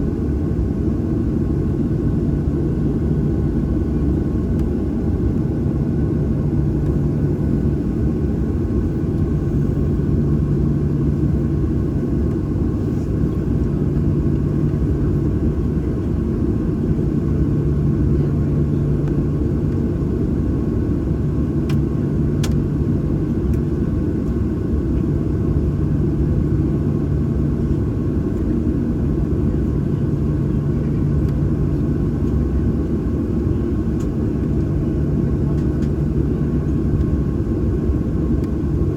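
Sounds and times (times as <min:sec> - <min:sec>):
aircraft cabin rumble: 0:00.0 - 0:38.9.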